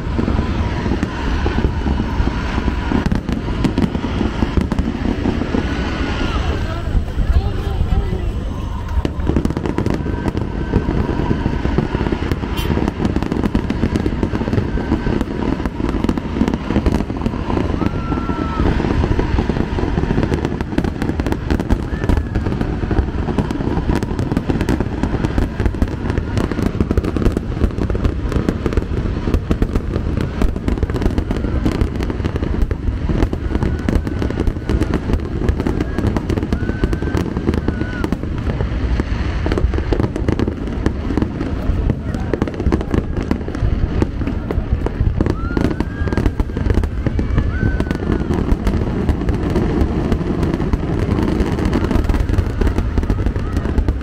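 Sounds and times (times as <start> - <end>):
fireworks booms and crackles: 0.0 - 54.0.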